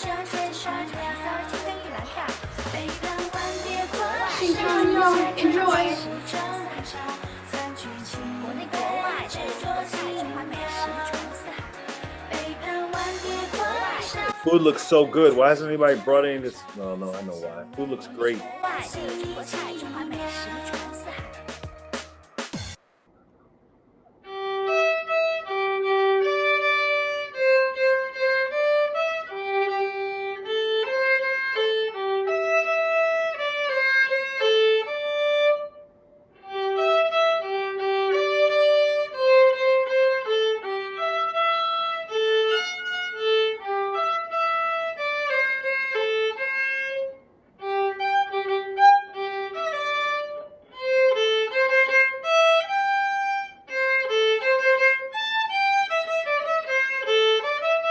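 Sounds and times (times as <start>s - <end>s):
solo violin melody: 3.4s - 20.7s, 24.2s - 57.9s.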